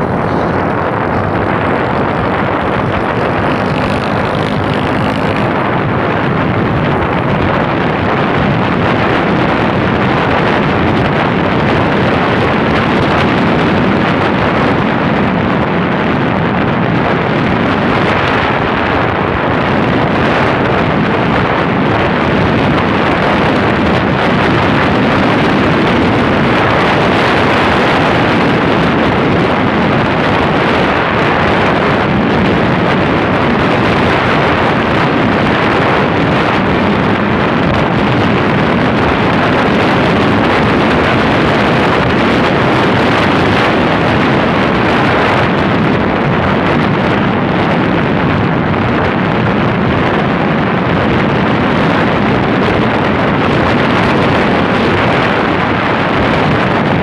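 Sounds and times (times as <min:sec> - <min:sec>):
motorcycle engine: 0:00.0 - 0:47.3
road noise: 0:00.0 - 0:57.0
wind rushing over microphone: 0:00.0 - 0:57.0.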